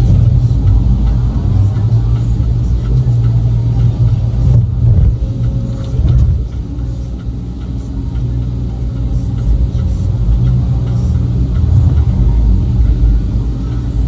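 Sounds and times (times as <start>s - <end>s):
heavy machine engine rumbling: 0.0s - 14.0s.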